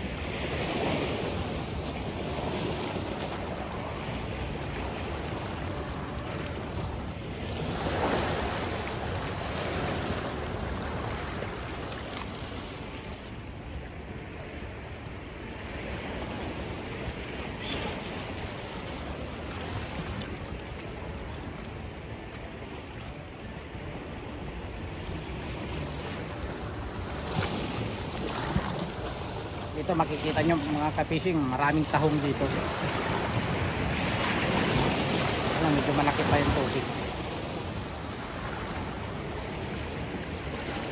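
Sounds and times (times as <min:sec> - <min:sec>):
sea waves washing against rocks: 0:00.0 - 0:40.9.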